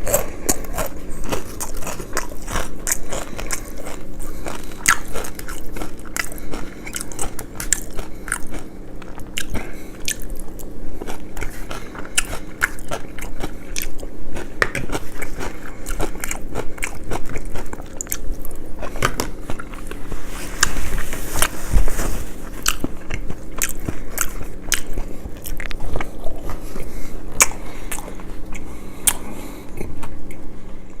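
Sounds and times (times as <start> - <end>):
crunchy food chewing: 0.0 - 31.0.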